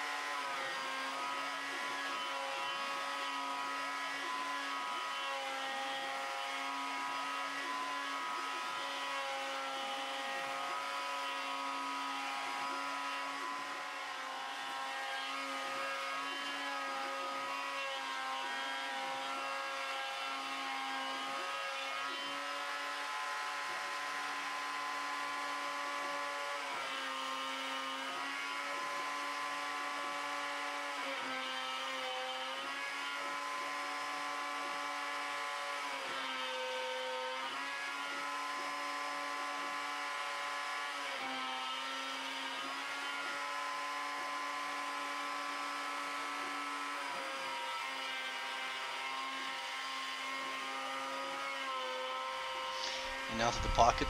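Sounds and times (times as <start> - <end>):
cnc router whining: 0.0 - 54.0.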